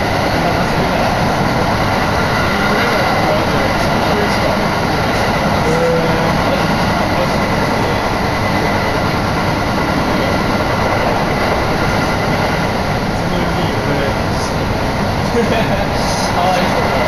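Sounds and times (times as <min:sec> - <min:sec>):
faint constant whine: 0:00.0 - 0:17.0
train wheels rumbling on rail: 0:00.0 - 0:17.0.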